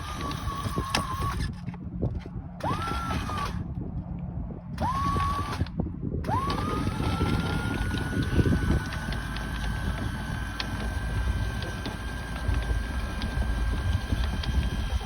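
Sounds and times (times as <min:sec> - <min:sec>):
wind rumble on microphone: 0:00.0 - 0:15.0
windlass motor whining: 0:00.0 - 0:15.0.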